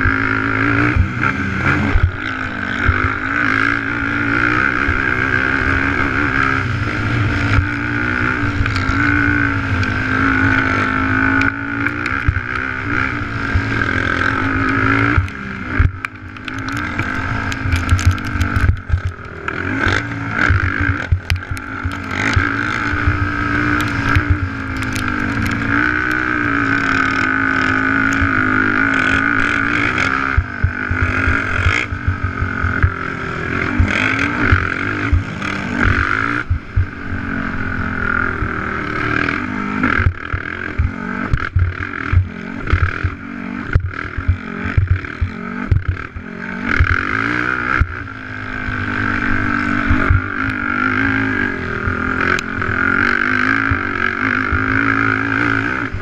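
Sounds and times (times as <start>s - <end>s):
knocks and thumps over rough track: 0.0s - 56.0s
quad engine at high revs: 0.0s - 56.0s.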